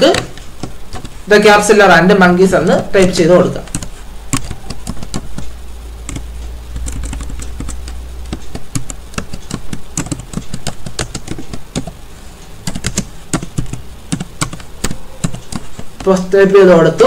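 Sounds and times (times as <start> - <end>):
low hum: 2.2 - 16.0.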